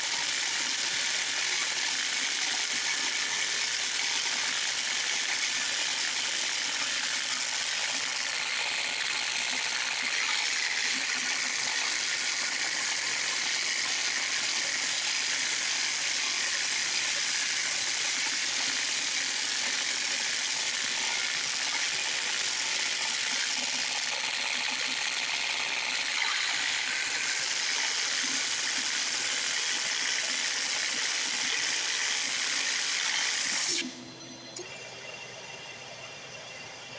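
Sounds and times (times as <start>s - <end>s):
shop vac running: 0.0s - 36.9s.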